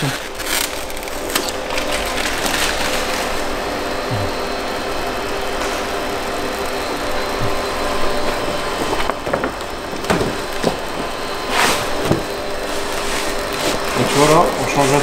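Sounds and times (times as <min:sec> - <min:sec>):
laminator humming: 0:00.0 - 0:15.0
plastic film crackling: 0:00.0 - 0:15.0.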